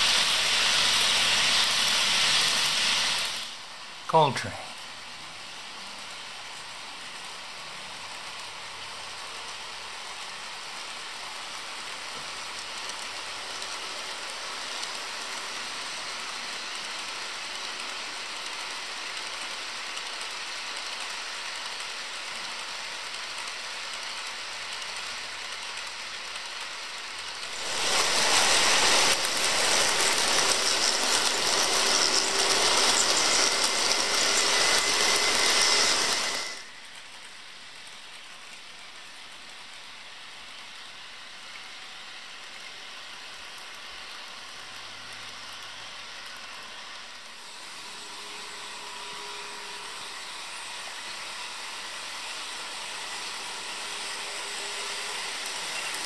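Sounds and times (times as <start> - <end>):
model trains whirring on rails: 0.0 - 56.0.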